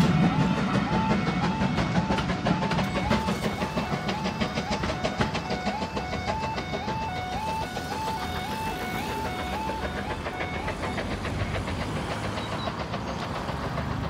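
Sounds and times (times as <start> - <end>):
two-tone level crossing alarm: 0.0 - 12.7
train rumbling over rails: 0.0 - 14.0.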